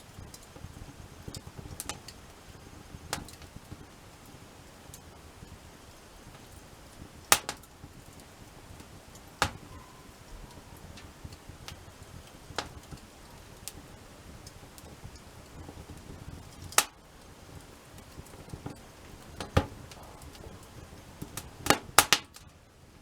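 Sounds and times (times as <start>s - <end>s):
campfire crackling pops: 0.0s - 23.0s
faint fire hiss: 0.0s - 23.0s.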